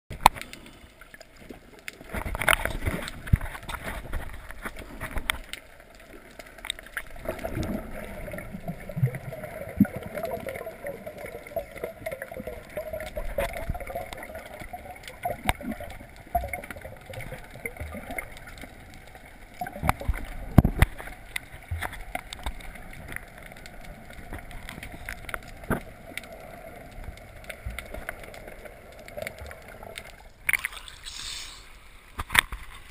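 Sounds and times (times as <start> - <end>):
underwater gurgling and sloshing: 0.1 - 32.9.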